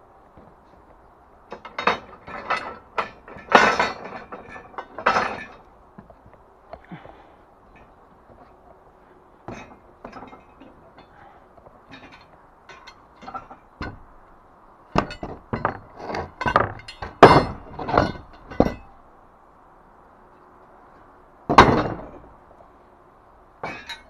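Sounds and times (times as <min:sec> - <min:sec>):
steel scaffold parts clanking: 0:00.3 - 0:19.1, 0:21.5 - 0:22.4, 0:23.6 - 0:24.0.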